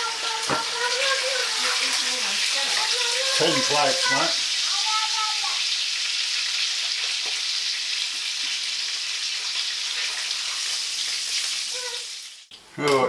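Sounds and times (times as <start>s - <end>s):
fish sizzling in a frying pan: 0.0s - 12.5s.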